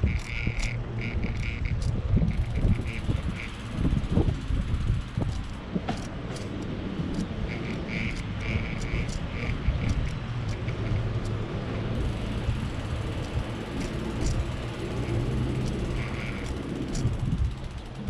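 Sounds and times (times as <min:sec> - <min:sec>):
faint clicks: 0:00.0 - 0:11.4, 0:13.0 - 0:18.0
outdoor noise: 0:00.0 - 0:18.0
vehicle engine running: 0:00.0 - 0:18.0.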